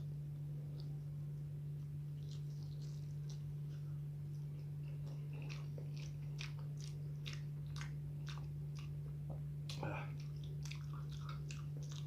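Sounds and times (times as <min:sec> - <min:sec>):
close chewing mouth sounds: 0:00.0 - 0:12.0
steady low hum: 0:00.0 - 0:12.0.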